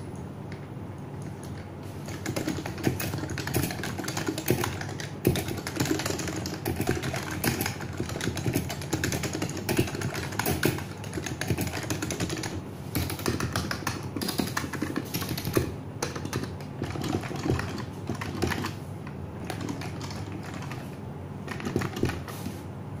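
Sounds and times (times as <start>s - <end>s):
low background hum: 0.0s - 23.0s
fast keyboard typing: 1.2s - 18.8s, 19.4s - 22.5s.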